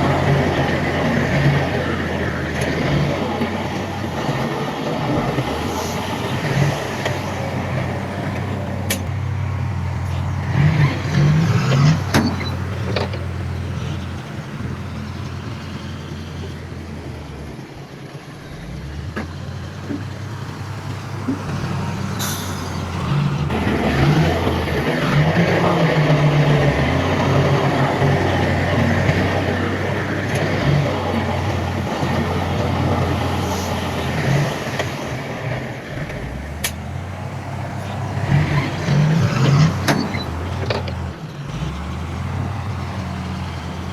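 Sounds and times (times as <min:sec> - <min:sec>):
diesel machinery engine hum: 0:00.0 - 0:43.9.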